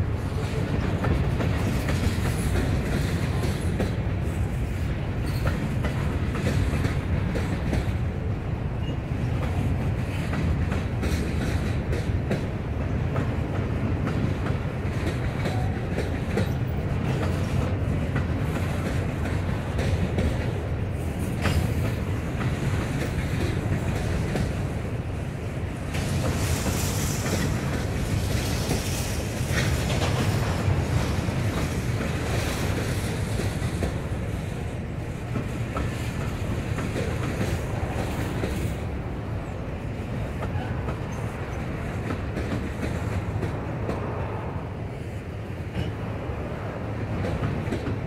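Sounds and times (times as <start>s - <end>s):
freight cars on rails: 0.0s - 48.0s.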